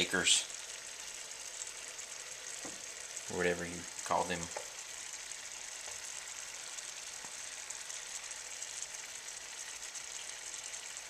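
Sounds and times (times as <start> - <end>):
steam hissing from pot: 0.0 - 11.0.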